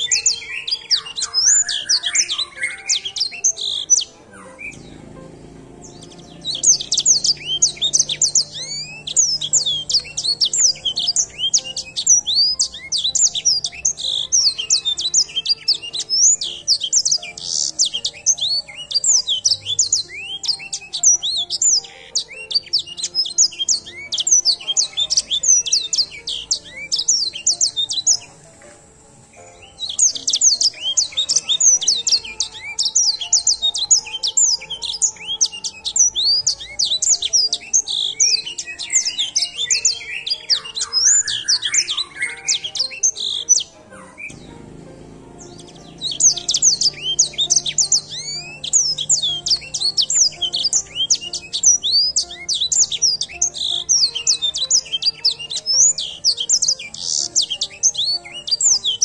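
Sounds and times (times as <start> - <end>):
finch singing high chirps: 0.0 - 59.0.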